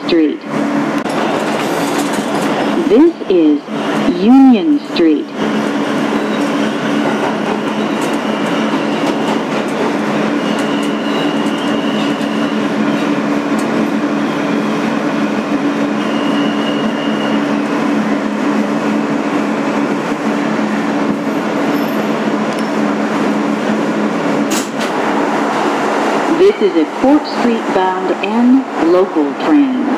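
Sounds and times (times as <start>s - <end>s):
subway car rumble: 0.0s - 29.9s.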